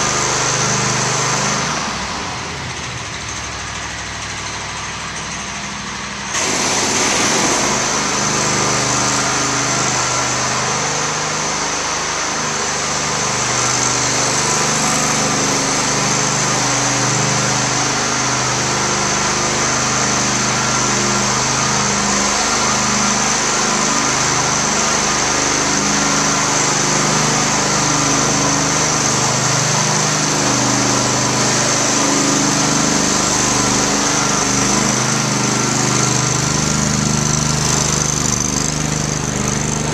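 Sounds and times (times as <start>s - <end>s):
floor burnisher engine hum: 0.0s - 39.9s.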